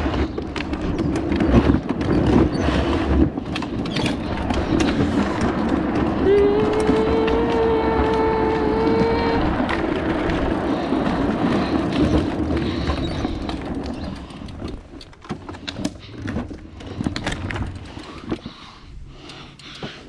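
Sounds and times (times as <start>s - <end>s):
light rattles and clicks: 0.0s - 20.0s
trike wheels rumbling on pavement: 0.0s - 20.0s.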